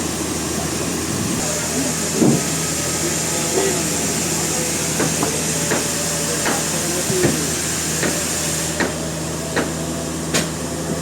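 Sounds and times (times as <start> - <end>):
sawmill machinery humming: 0.0 - 11.0.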